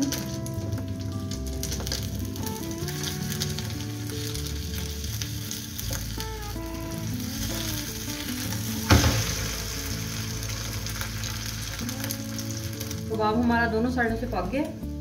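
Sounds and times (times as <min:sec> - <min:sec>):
meat sizzling in a pan: 0:00.0 - 0:13.5.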